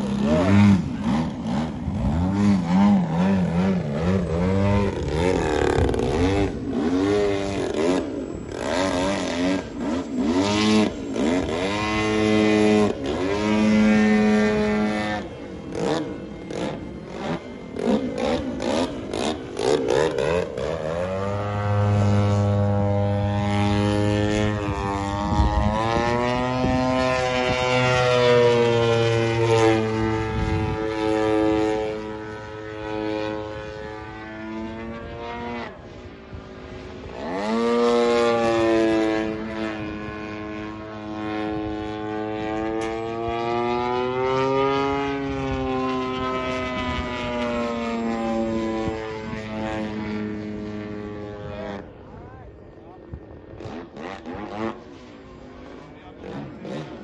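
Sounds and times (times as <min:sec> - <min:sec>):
model airplane engine and propeller: 0:00.0 - 0:57.0.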